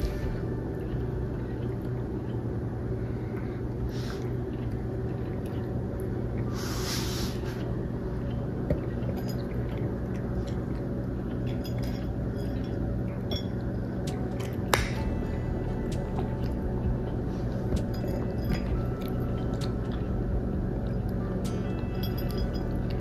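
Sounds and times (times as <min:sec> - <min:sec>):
steady low drone: 0:00.0 - 0:23.0.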